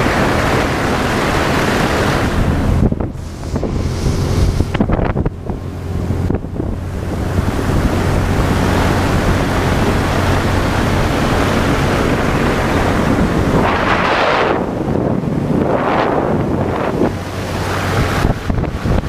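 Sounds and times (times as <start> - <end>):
boat motor hum: 0.0 - 19.0
water rushing past hull: 0.0 - 19.0
wind buffeting microphone: 0.0 - 19.0.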